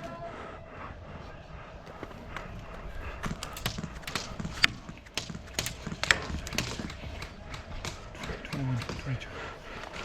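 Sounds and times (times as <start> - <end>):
sharp cracks: 1.8 - 10.0.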